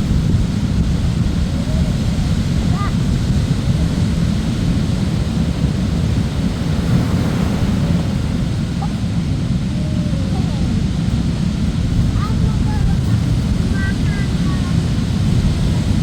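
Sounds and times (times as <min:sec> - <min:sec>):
ocean surf rumbling: 0:00.0 - 0:16.0
wind buffeting microphone: 0:00.0 - 0:16.0.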